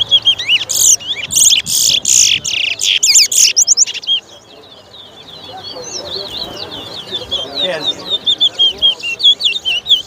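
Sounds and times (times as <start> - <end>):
finch singing warbling song: 0.0 - 10.0.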